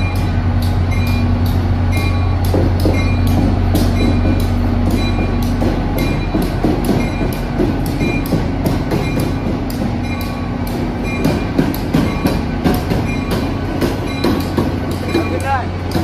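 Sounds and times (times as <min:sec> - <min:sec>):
diesel locomotive engine hum: 0:00.0 - 0:16.0
wheels clicking over rail joints: 0:00.0 - 0:16.0.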